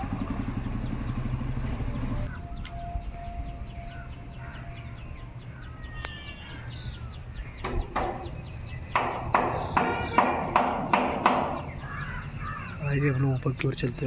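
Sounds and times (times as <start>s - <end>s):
loud harsh bird calls: 0.0s - 14.0s.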